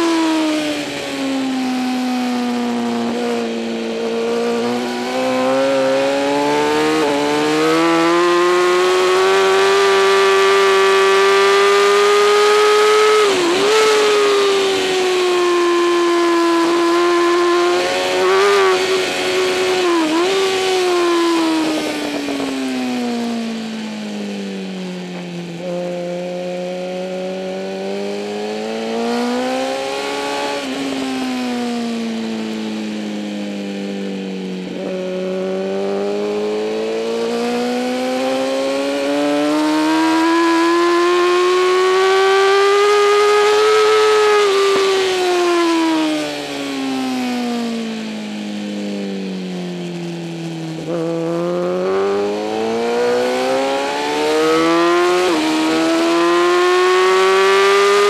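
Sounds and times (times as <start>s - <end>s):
motorcycle engine racing: 0.0s - 58.0s.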